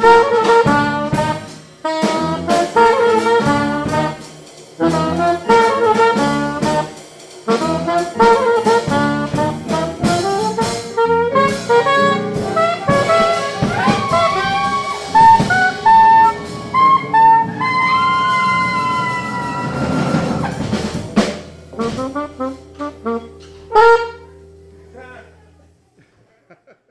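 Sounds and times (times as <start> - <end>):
horns holding long notes: 0.0 - 20.9, 21.7 - 25.4
live jazz combo playing: 0.0 - 25.8.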